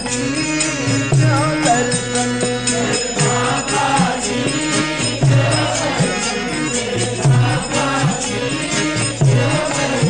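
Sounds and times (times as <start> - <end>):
devotional music with steady beat: 0.0 - 10.0
jingling percussion: 0.0 - 10.0
singing: 0.0 - 10.0.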